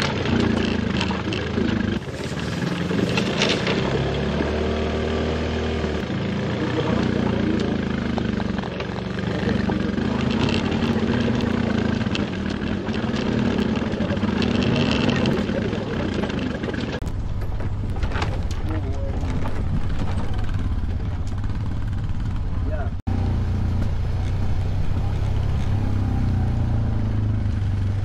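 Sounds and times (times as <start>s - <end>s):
off-road vehicle engine: 0.0s - 28.0s.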